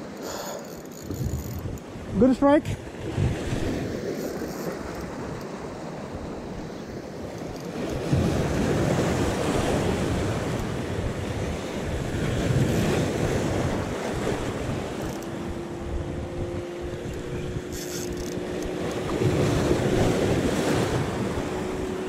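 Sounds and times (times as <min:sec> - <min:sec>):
sea waves breaking over rocks: 0:00.0 - 0:22.0
wind buffeting microphone: 0:01.0 - 0:22.0.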